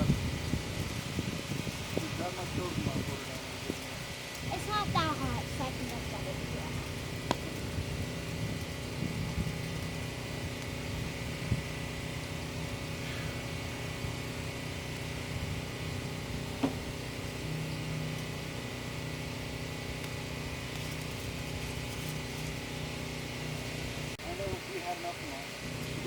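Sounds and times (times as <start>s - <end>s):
engine hum: 0.0s - 26.0s.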